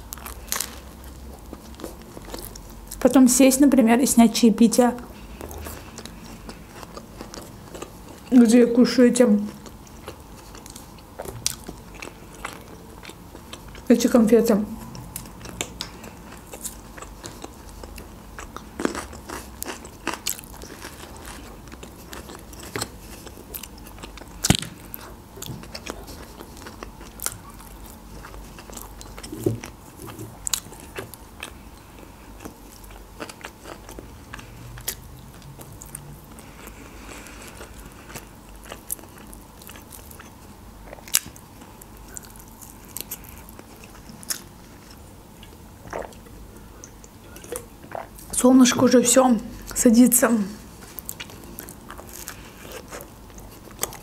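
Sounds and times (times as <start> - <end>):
person chewing crunchy food: 0.0 - 3.1, 5.0 - 8.5, 9.5 - 13.9, 14.8 - 48.3, 50.6 - 54.0.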